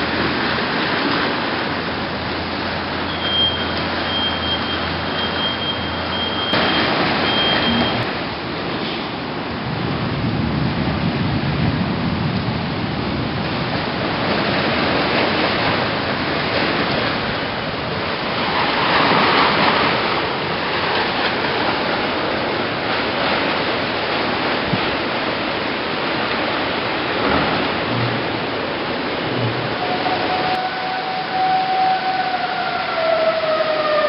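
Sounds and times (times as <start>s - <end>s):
rain and wind rushing hiss: 0.0s - 4.1s, 5.9s - 30.6s.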